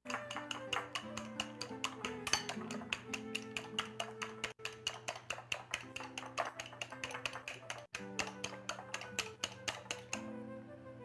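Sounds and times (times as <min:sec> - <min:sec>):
fork beating eggs in glass bowl: 0:00.0 - 0:10.2
background music: 0:00.0 - 0:11.0.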